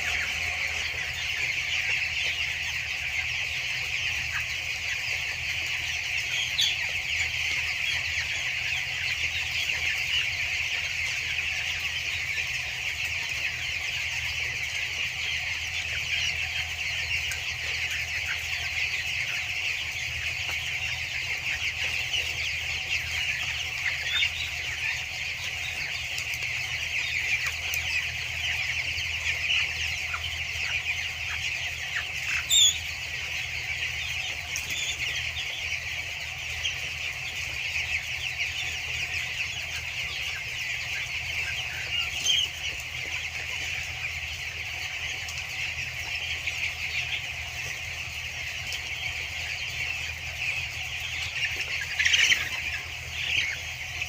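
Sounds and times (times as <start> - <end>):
chicks peeping and chirping: 0.0 - 54.0
louder chick calls: 0.0 - 54.0.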